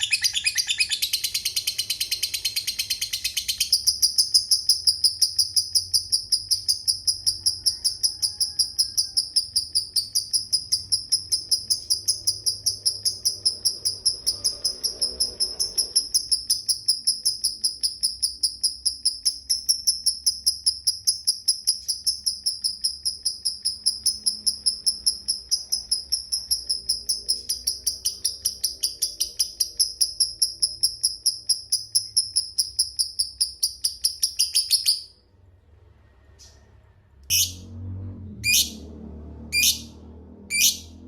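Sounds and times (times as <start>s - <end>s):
bird chirping rapidly: 0.0s - 35.2s, 37.3s - 37.6s, 38.4s - 38.8s, 39.5s - 41.0s.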